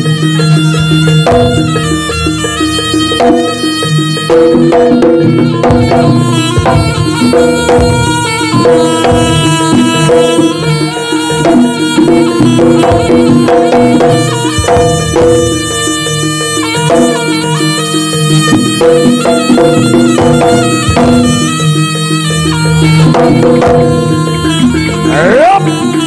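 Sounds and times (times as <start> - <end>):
gamelan percussion: 0.0 - 26.0
hand drumming: 0.0 - 26.0
shawm melody: 0.0 - 26.0.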